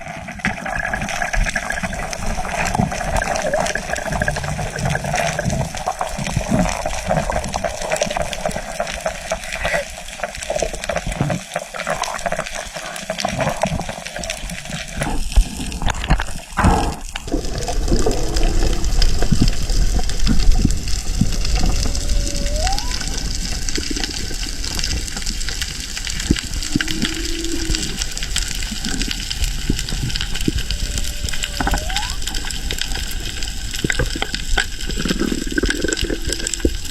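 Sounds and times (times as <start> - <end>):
underwater rushing water: 0.0 - 36.9.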